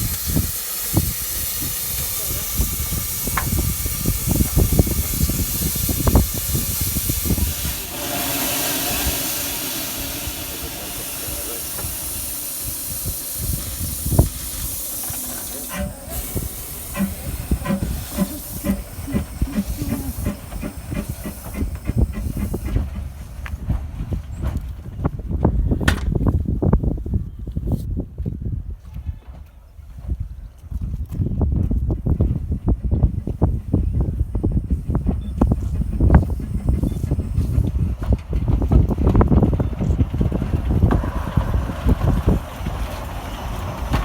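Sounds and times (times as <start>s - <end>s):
steam locomotive hissing steam: 0.0s - 24.6s, 32.8s - 44.0s
wind buffeting microphone: 0.0s - 44.0s.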